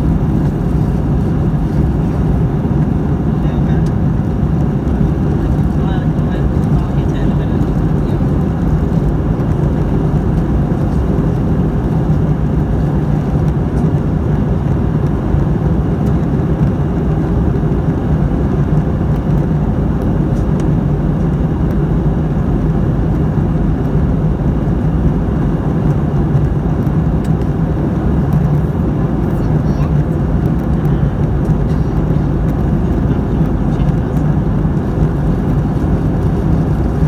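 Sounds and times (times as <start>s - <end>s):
airplane cabin engine roar: 0.0s - 37.0s
low hum: 0.0s - 37.0s.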